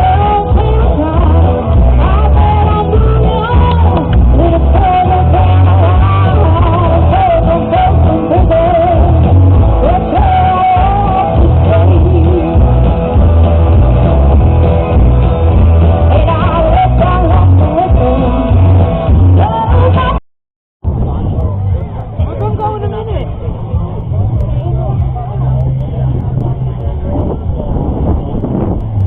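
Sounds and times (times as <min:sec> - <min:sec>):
rock music with singer: 0:00.0 - 0:20.2, 0:20.8 - 0:29.0.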